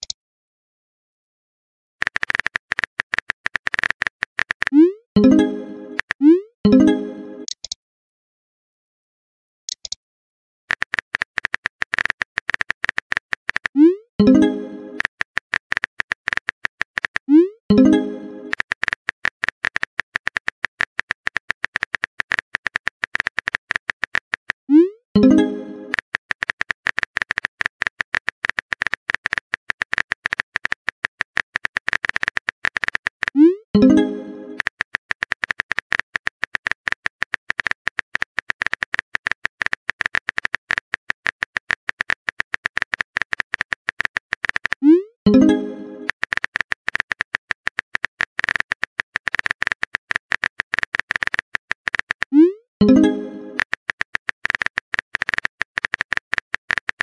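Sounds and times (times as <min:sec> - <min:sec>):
keyboard typing clicks: 0:02.0 - 0:07.8, 0:09.7 - 0:10.0, 0:10.7 - 0:57.0.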